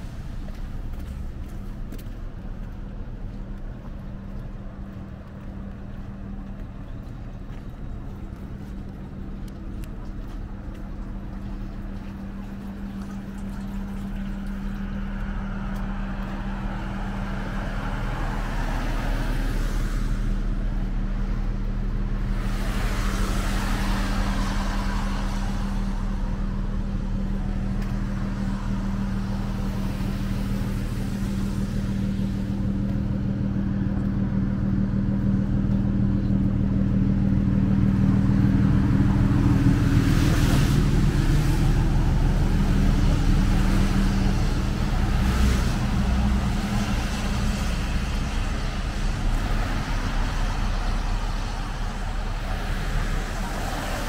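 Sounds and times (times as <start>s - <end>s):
tyres hissing on wet road: 0.0s - 3.8s, 8.2s - 36.1s, 36.9s - 54.0s
steady low hum: 0.0s - 54.0s
vehicles passing: 0.0s - 54.0s.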